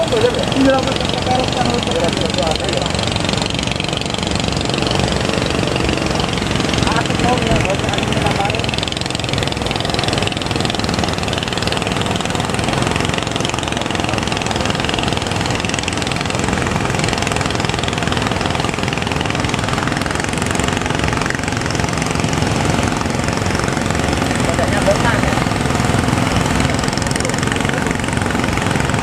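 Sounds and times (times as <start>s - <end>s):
boat engine running: 0.0s - 29.0s
constant rushing noise: 0.0s - 29.0s.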